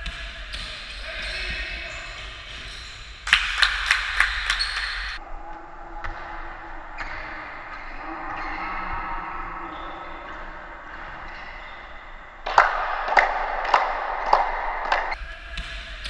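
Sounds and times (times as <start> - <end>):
basketball bouncing on hall floor: 0.0 - 5.2, 6.0 - 16.0
gymnasium background noise: 0.0 - 16.0.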